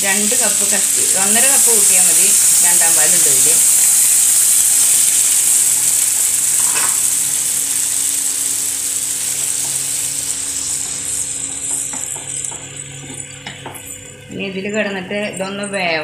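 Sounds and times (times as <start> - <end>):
frying pan sizzling: 0.0 - 16.0.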